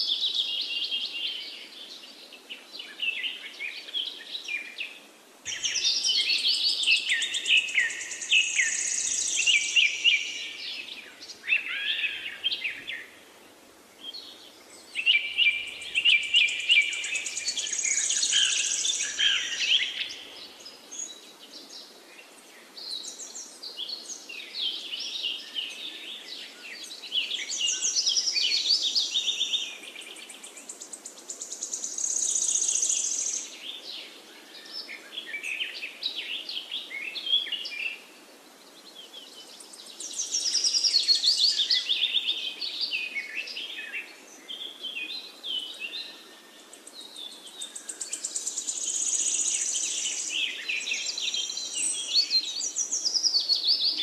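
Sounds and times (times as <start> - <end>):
songbirds twittering and trilling: 0.0 - 54.0.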